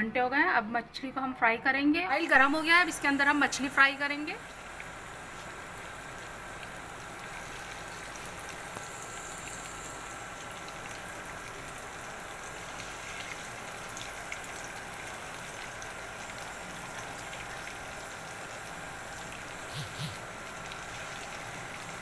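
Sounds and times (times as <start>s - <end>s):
fish deep-frying in oil: 2.2s - 22.0s.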